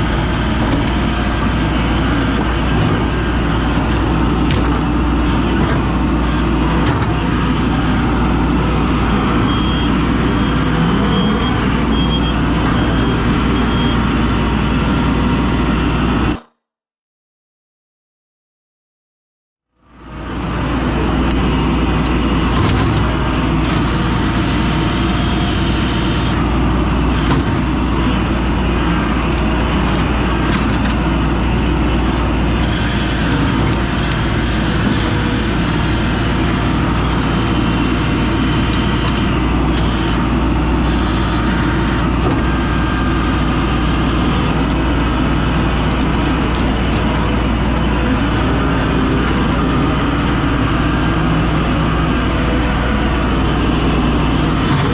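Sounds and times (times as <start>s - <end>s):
heavy engine droning: 0.0s - 16.5s, 19.8s - 54.9s.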